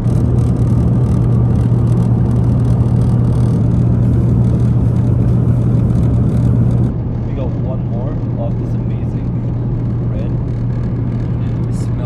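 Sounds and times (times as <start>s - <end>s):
airplane cabin airflow and engine: 0.0s - 12.0s
strong low hum: 0.0s - 12.0s.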